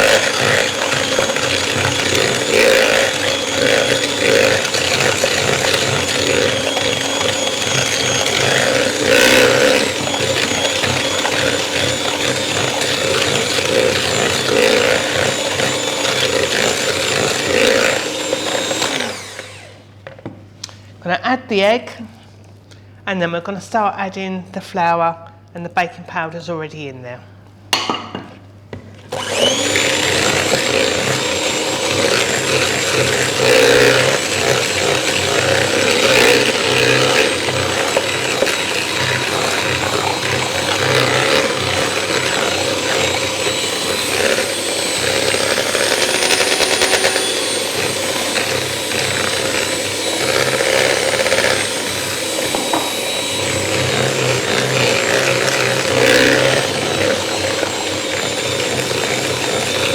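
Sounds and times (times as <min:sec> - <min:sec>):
electric mixer motor whine: 0:00.0 - 0:20.0, 0:29.1 - 0:59.9.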